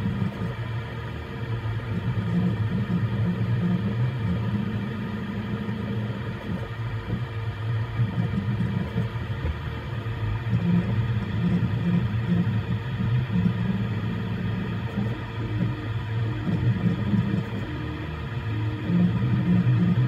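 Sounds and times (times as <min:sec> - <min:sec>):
three d printer motors and fans: 0:00.0 - 0:20.0.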